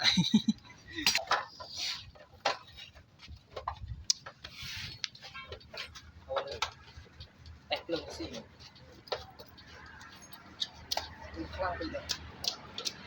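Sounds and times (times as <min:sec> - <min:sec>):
hard objects clicking and knocking: 0:01.0 - 0:11.3, 0:12.0 - 0:13.0.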